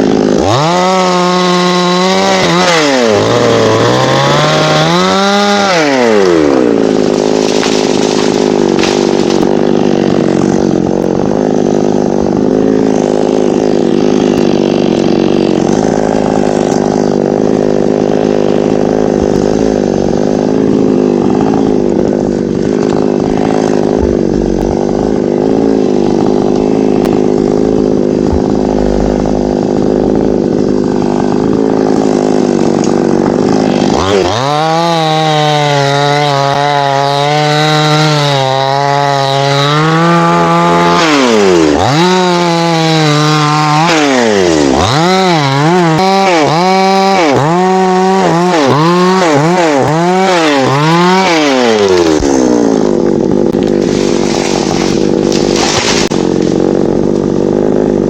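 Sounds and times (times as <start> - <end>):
chainsaw cutting and revving: 0.0 - 58.0.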